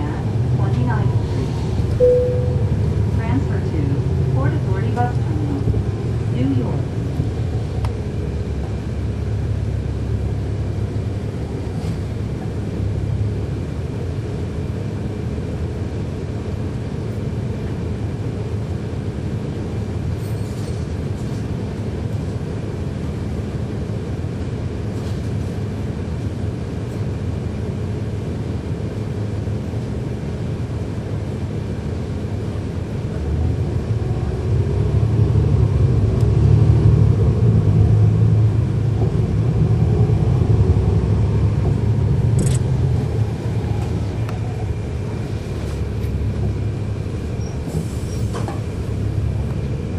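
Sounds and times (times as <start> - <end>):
bus engine rumbling: 0.0 - 49.9.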